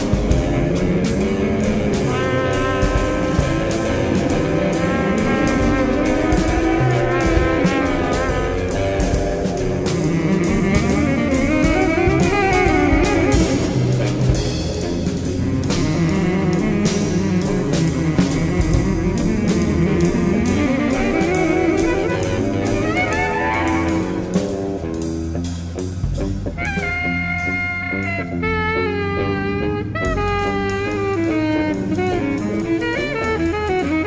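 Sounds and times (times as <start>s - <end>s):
drum kit and cymbal hits: 0.0s - 28.5s, 30.0s - 34.0s
electric guitar: 0.0s - 34.0s
saxophone lead line: 0.0s - 34.0s.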